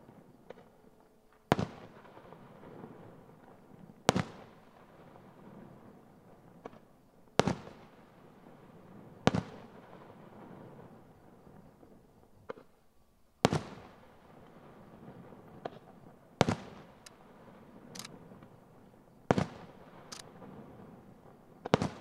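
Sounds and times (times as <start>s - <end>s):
small firework cracks: 0.0s - 5.7s, 6.4s - 11.0s, 12.4s - 12.8s, 13.4s - 22.0s.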